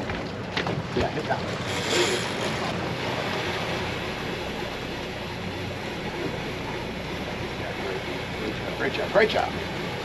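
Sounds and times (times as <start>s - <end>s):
outboard motor humming: 0.0s - 10.0s
wind and sea wash: 0.0s - 10.0s.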